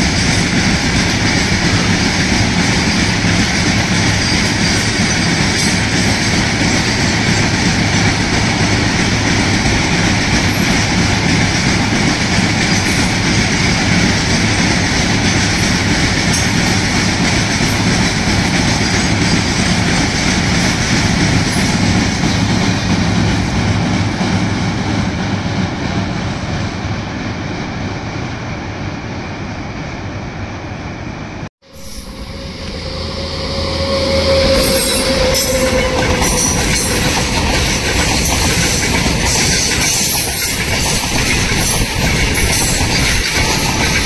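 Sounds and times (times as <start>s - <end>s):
train wheels clattering on rails: 0.0s - 27.0s, 31.7s - 44.0s
train rumbling over steel bridge: 0.0s - 44.0s.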